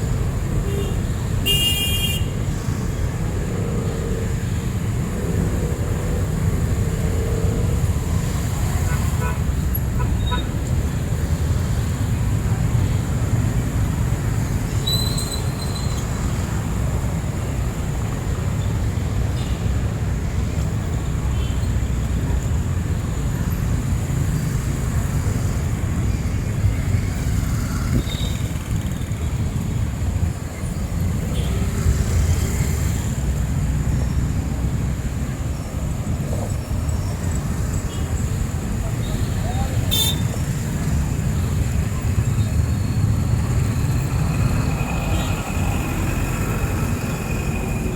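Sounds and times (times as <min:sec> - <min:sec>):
traffic rumble: 0:00.0 - 0:47.9.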